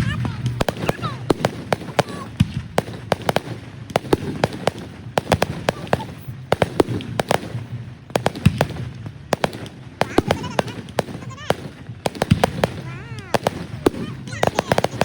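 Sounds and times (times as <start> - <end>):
fireworks banging: 0.0 - 15.0.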